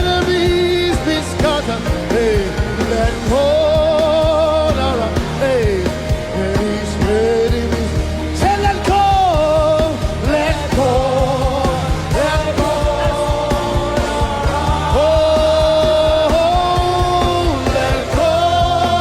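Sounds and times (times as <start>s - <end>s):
band with strong bass: 0.0s - 19.0s
gospel singing: 0.0s - 19.0s.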